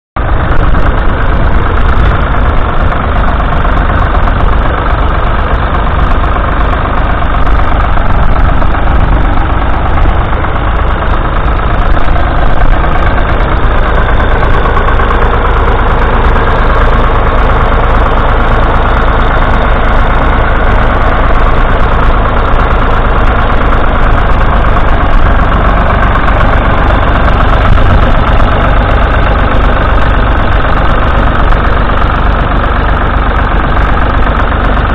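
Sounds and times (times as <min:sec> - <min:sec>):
tractor diesel engine under load: 0:00.2 - 0:34.9.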